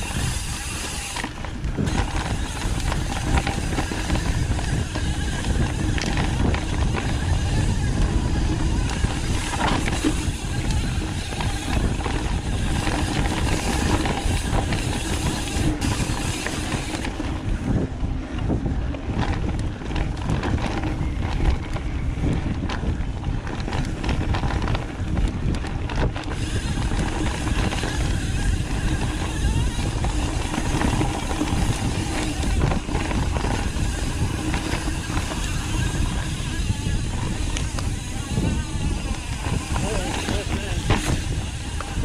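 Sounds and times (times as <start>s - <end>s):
bike clicks and knocks: 0.0s - 42.0s
tyre noise on dirt: 0.0s - 42.0s
wind on microphone: 0.0s - 42.0s.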